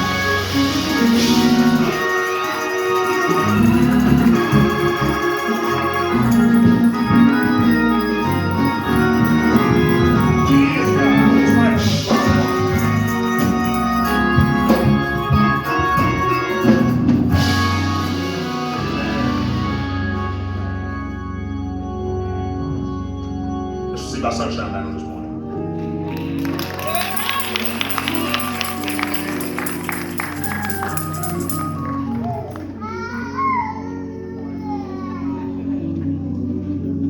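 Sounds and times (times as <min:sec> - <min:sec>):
organ playing chords: 0:00.0 - 0:37.0.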